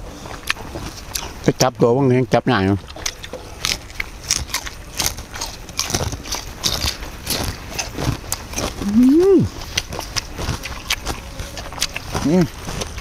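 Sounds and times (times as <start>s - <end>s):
crunchy chewing of raw vegetables: 0.0s - 13.0s.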